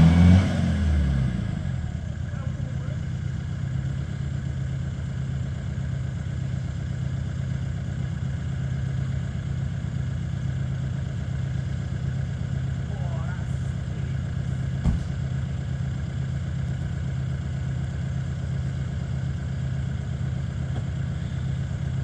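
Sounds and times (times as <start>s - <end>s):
diesel engine idling: 0.2s - 22.0s.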